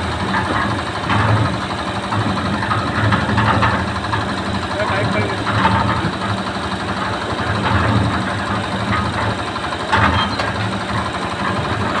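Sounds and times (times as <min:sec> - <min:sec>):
concrete mixer engine drone: 0:00.0 - 0:12.0.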